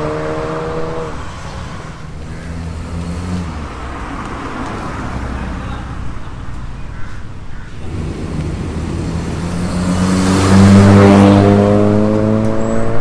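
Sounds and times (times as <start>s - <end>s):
car accelerating past: 0.0s - 5.6s, 7.8s - 13.0s.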